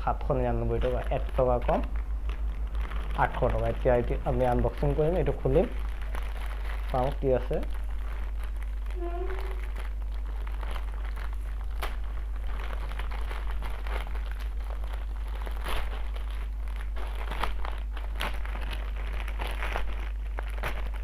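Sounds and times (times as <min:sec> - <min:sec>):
plastic bag crinkling and tearing: 0:00.0 - 0:21.0
steady low hum: 0:00.0 - 0:21.0.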